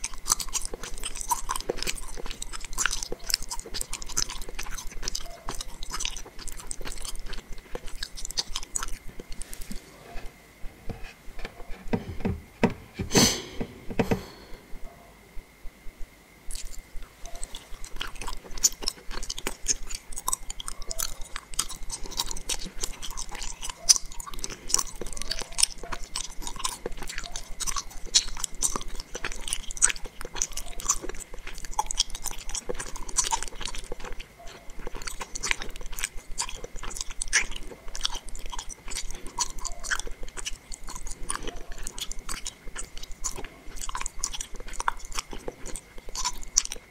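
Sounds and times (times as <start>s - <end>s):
chewing gummy candy: 0.0s - 10.4s, 16.5s - 46.9s.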